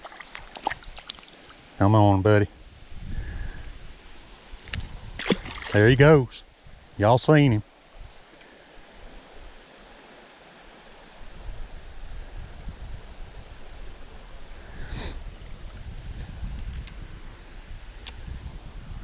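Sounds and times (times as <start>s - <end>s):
insect chorus droning: 0.0s - 19.0s.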